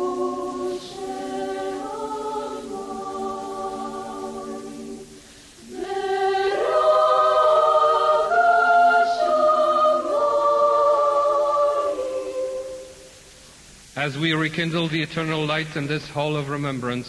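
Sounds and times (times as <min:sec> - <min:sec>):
choir singing held chords: 0:00.0 - 0:15.7.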